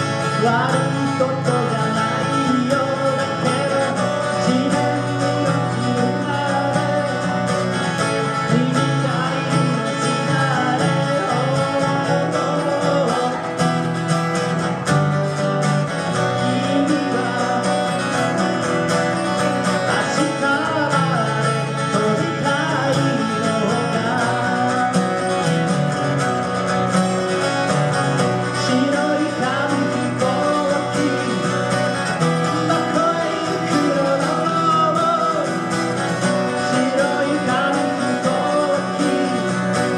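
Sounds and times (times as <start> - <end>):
two acoustic guitars playing: 0.0 - 39.9.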